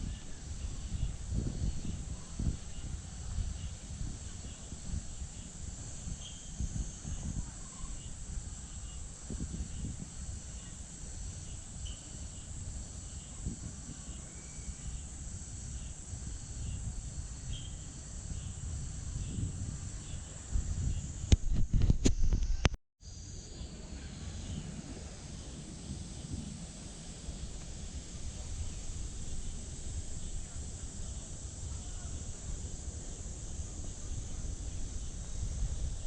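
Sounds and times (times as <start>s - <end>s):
low microphone rumbling: 0.0s - 22.8s, 23.4s - 36.0s
high-pitched insect drone: 0.0s - 36.0s.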